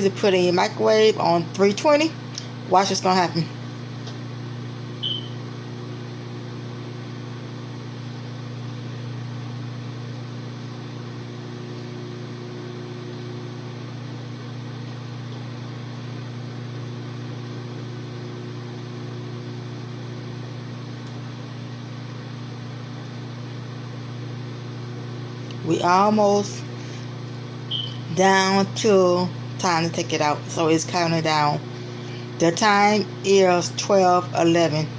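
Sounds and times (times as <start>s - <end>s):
microwave oven humming: 0.0s - 34.9s.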